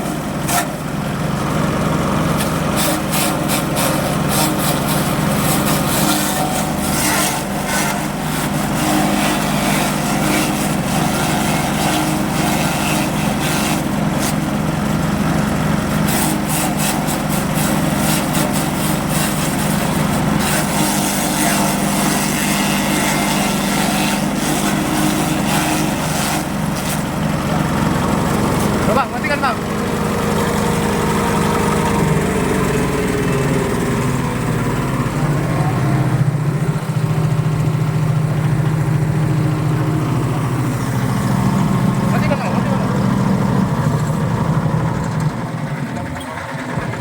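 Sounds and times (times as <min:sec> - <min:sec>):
grass chopper engine drone: 0:00.0 - 0:47.0.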